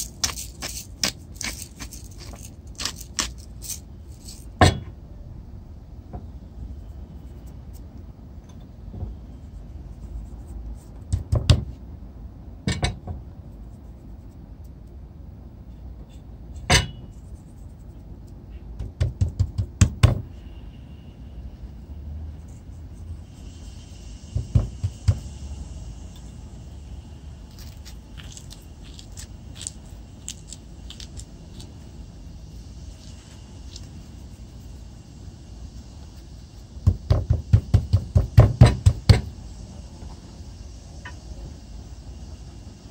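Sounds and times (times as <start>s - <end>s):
low steady rumble: 0.0s - 42.9s.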